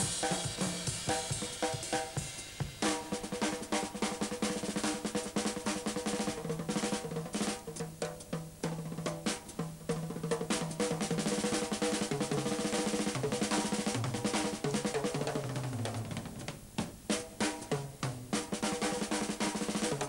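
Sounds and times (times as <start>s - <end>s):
drum rolls on snare and toms: 0.0s - 20.0s.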